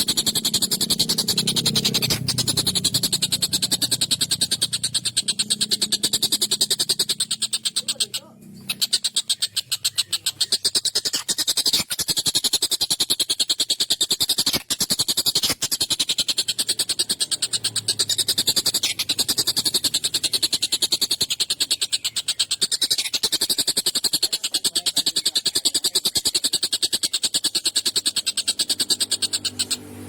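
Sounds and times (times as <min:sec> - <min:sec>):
kingfisher rattling call: 0:00.0 - 0:30.0.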